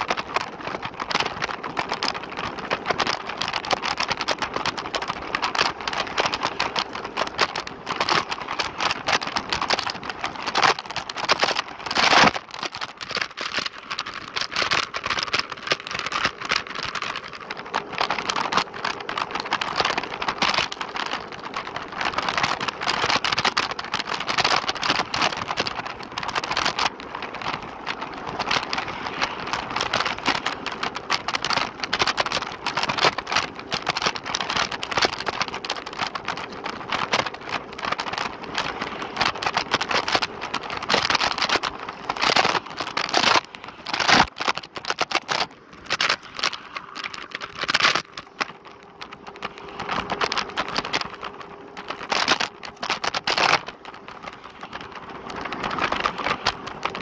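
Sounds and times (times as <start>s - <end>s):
scooter rattling over street: 0.0s - 57.0s.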